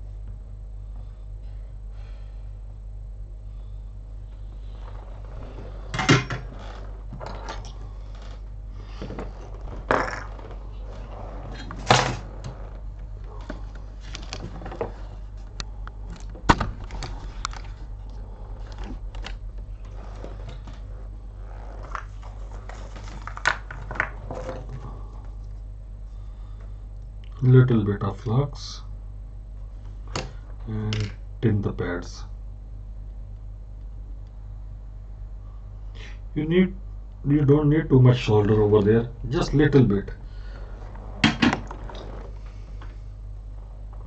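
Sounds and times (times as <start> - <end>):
low mains hum: 0.0 - 44.0.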